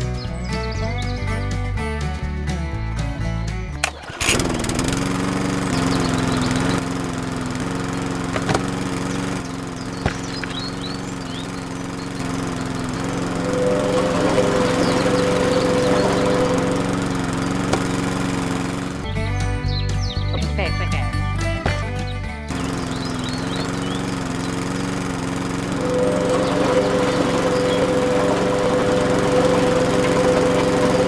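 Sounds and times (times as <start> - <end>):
small motor humming: 3.8 - 19.8, 21.4 - 31.0.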